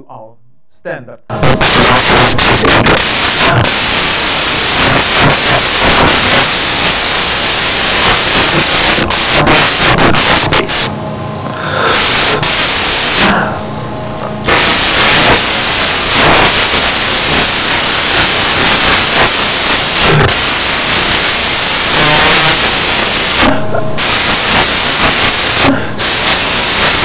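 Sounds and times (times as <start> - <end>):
hissing static noise: 1.3 - 27.0.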